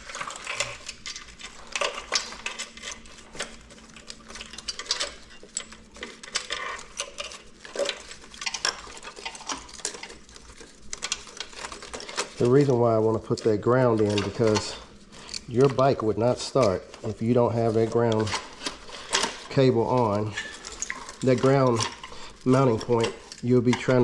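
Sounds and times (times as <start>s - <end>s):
wiring harness clicks and rustles: 0.0s - 24.0s.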